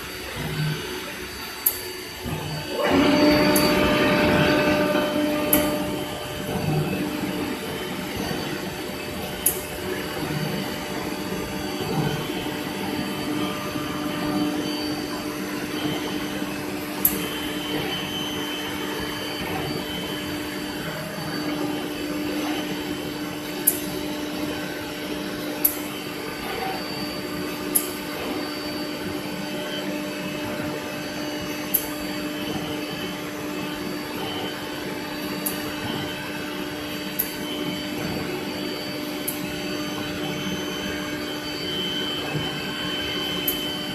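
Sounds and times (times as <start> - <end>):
router spindle whine: 0.0 - 43.9.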